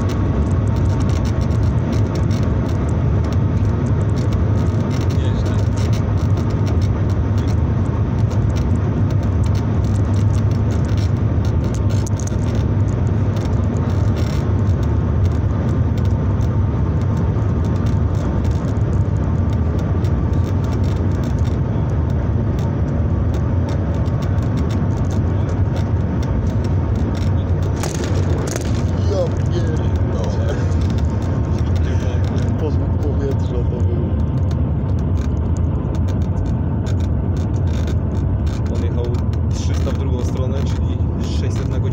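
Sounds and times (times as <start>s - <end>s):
train cabin rumble and rushing air: 0.0s - 41.9s.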